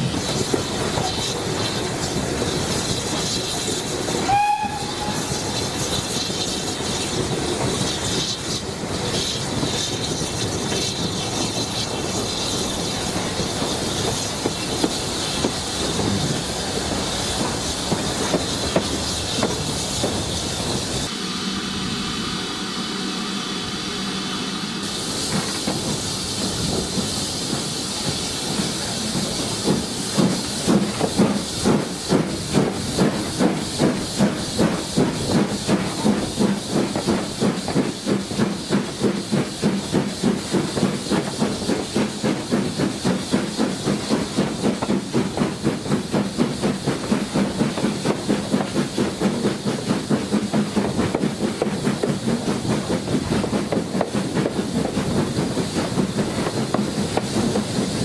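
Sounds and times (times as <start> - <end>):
rail clatter: 0.0 - 21.1, 24.9 - 58.0
steam hiss: 0.0 - 58.0
steam locomotive exhaust beats: 0.0 - 58.0.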